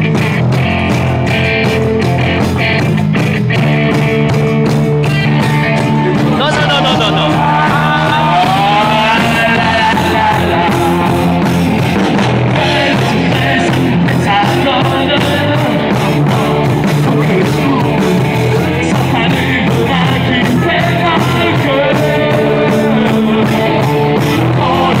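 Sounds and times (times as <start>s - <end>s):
live rock band: 0.0s - 25.0s.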